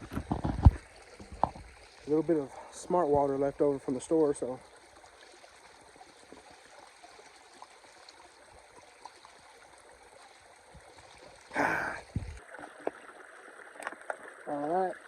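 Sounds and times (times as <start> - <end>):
creek flowing: 0.0 - 15.0.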